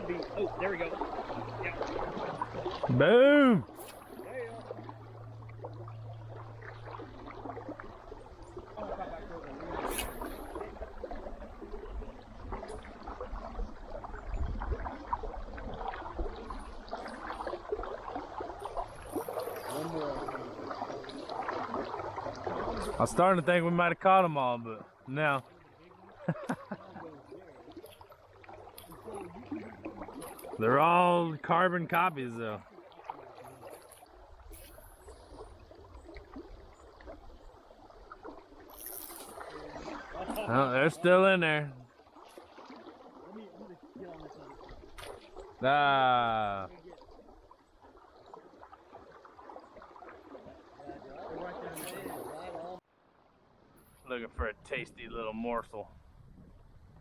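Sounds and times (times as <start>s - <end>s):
water splashing and trickling: 0.0s - 57.0s.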